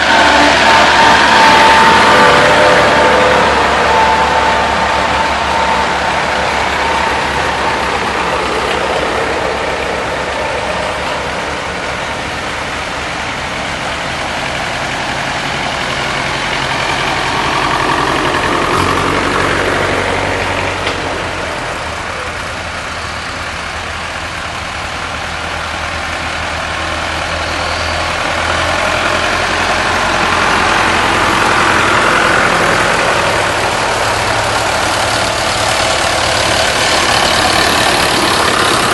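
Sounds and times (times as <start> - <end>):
tractor engines chugging: 0.0 - 38.9.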